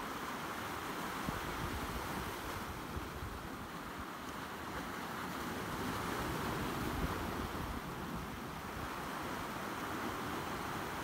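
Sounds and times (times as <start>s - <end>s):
waves breaking over rocks: 0.0s - 11.0s
wind rumbling on microphone: 0.0s - 11.0s.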